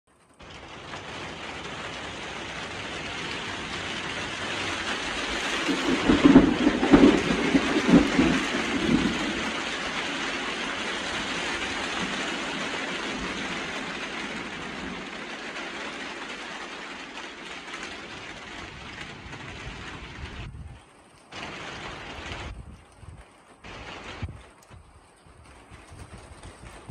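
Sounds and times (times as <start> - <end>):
heavy rain: 0.1 - 26.9
thunder rumbling: 0.3 - 26.9.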